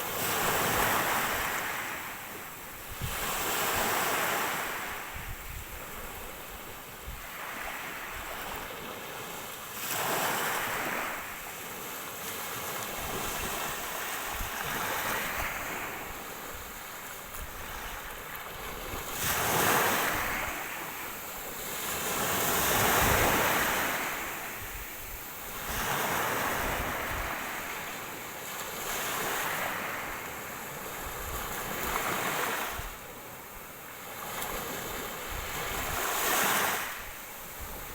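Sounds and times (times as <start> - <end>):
ocean waves breaking on shore: 0.0 - 37.9.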